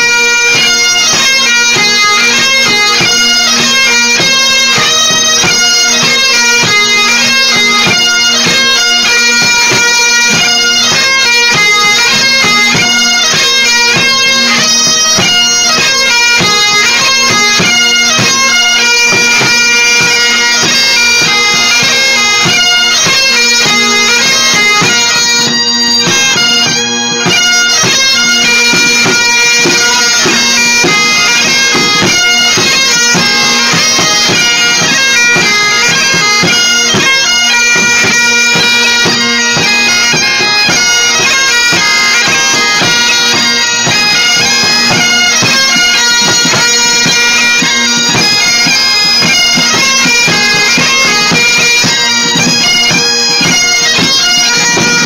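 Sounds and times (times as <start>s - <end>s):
bagpipe playing a tune: 0.0s - 55.0s
drums beating time: 0.0s - 55.0s.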